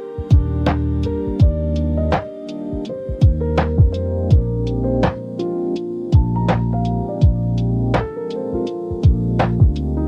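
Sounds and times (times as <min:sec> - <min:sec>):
chill electronic music: 0:00.0 - 0:10.0.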